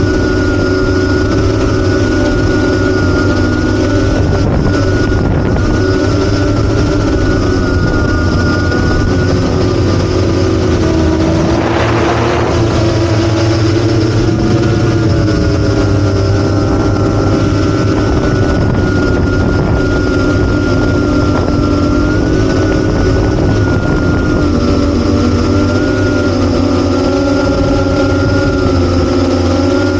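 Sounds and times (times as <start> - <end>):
drone motors and propellers: 0.0 - 29.9
rush of wind noise: 0.0 - 29.9.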